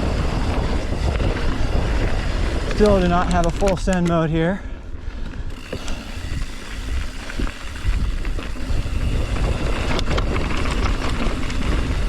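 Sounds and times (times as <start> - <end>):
bike clicks and rattles: 0.0 - 12.0
wind rumbling on microphone: 0.0 - 12.0.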